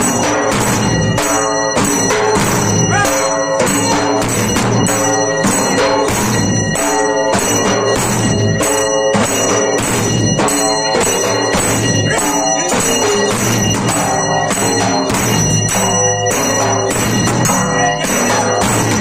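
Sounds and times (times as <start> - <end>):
hand cymbals clashing: 0.0 - 19.0
steel drums beaten with sticks: 0.0 - 19.0.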